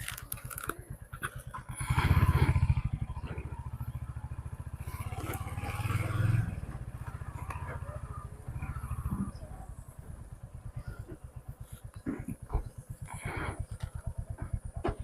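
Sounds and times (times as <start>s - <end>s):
motorcycle engine pulsing: 0.0s - 15.0s.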